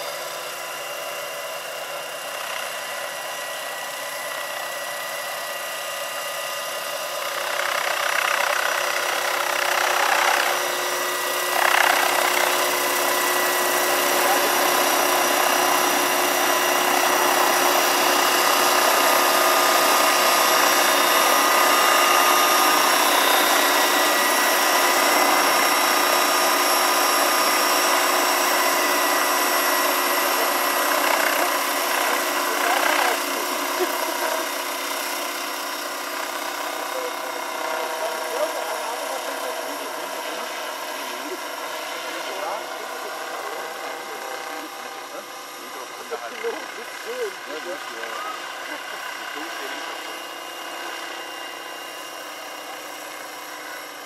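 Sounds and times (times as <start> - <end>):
electric drive whine: 0.0 - 54.0.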